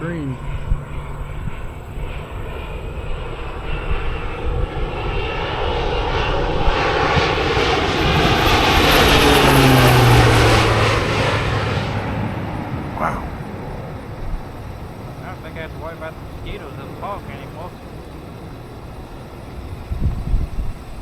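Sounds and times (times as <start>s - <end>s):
propeller airplane flying past: 0.0s - 21.0s.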